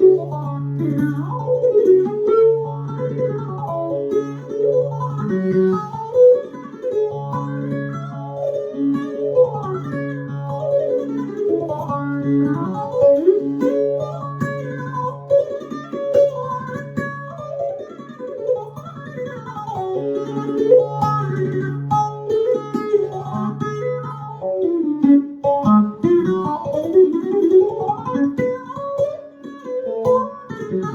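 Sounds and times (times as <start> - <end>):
electric saz picked melody: 0.0 - 30.9.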